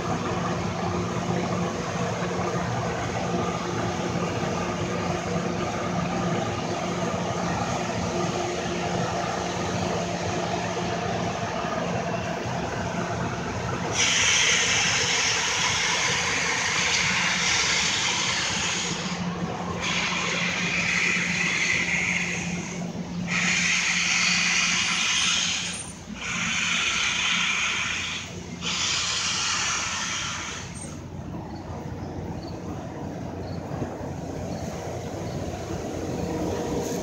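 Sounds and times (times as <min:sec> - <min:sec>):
steam locomotive hissing steam: 0:00.0 - 0:37.0.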